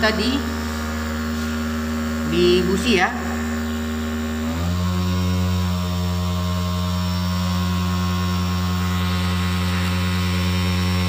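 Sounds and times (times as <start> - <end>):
sewing machine motor humming: 0.0 - 11.0.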